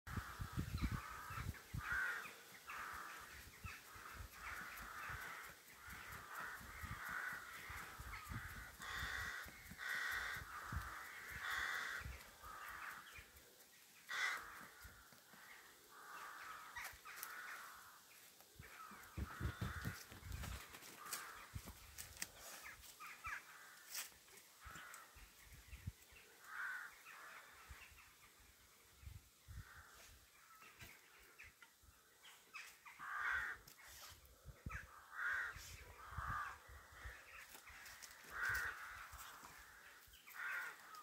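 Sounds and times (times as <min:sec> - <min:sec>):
crows cawing: 0:00.1 - 0:28.0, 0:32.5 - 0:34.0, 0:34.7 - 0:41.0.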